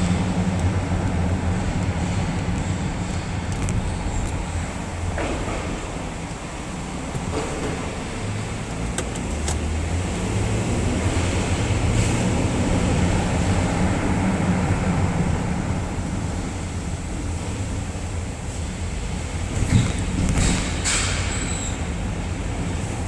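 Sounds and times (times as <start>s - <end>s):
car low hum: 0.0s - 23.0s.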